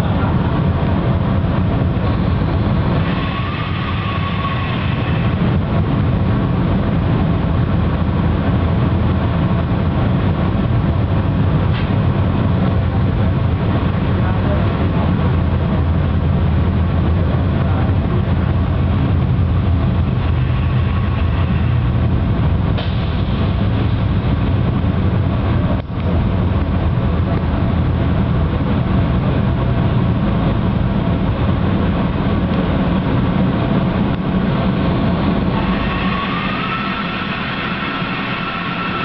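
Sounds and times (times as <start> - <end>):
train rumbling over rails: 0.0 - 39.0.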